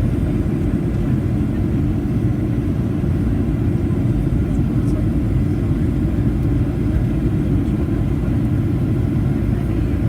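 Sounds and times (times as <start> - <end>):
airplane engines rumbling: 0.0 - 10.0.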